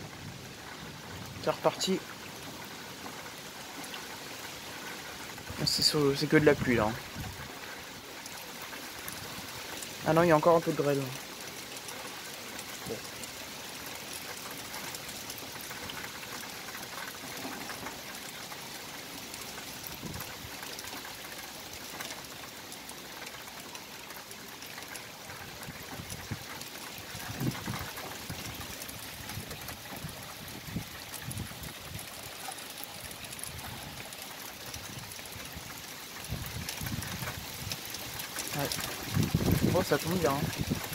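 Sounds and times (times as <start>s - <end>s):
heavy rain falling: 0.0s - 40.9s
hail: 0.1s - 40.9s.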